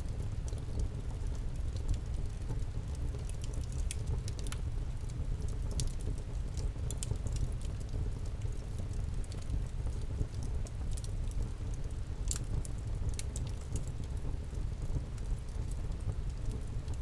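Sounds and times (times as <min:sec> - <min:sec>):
campfire crackling and popping: 0:00.1 - 0:17.0.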